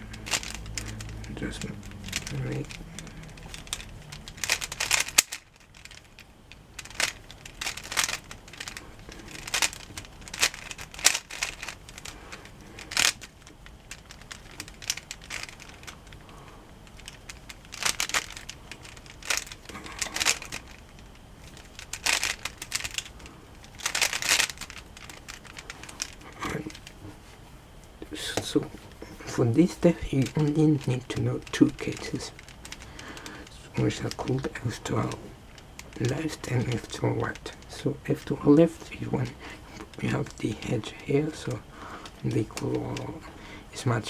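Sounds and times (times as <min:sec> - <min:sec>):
plastic puzzle cube clicking: 0:00.1 - 0:27.0, 0:29.6 - 0:43.2.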